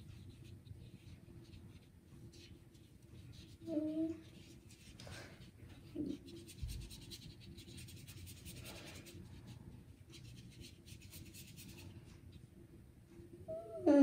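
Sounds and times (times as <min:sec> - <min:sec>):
brush strokes on paper: 0:00.0 - 0:12.4.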